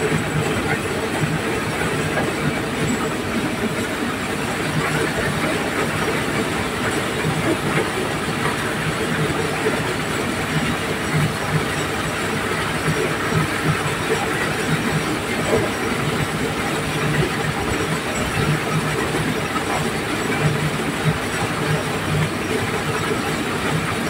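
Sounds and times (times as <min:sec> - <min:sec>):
corn sheller machine rattling: 0:00.0 - 0:24.0.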